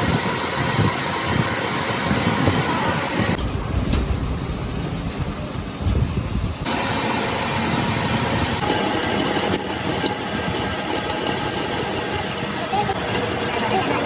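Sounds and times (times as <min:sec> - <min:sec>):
engine running with low rumble: 0:00.0 - 0:14.0.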